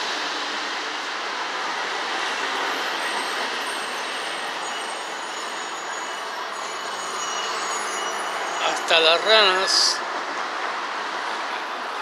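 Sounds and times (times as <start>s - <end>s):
street traffic rush: 0.0s - 12.0s.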